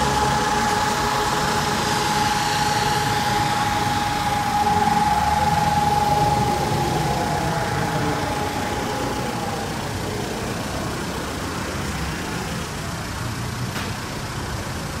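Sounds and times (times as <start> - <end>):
warning siren winding down: 0.0 - 12.8
street noise rumble: 0.0 - 15.0.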